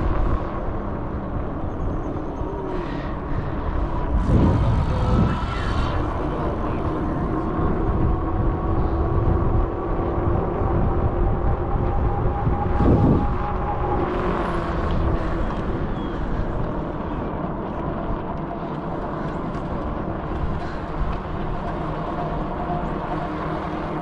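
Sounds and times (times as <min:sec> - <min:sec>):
electric motor whine: 0:00.0 - 0:24.0
wind buffeting microphone: 0:00.0 - 0:24.0.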